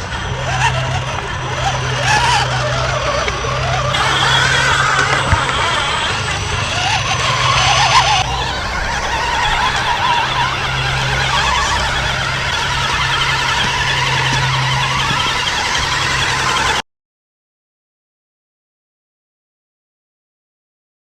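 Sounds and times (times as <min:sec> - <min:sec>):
electric motors whining: 0:00.0 - 0:16.8
steady low hum: 0:00.0 - 0:16.8.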